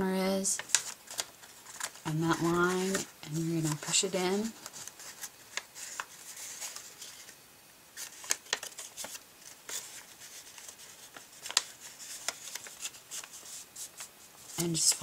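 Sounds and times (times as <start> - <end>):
paper rustling and creasing clicks: 0.5 - 7.4, 8.0 - 15.0.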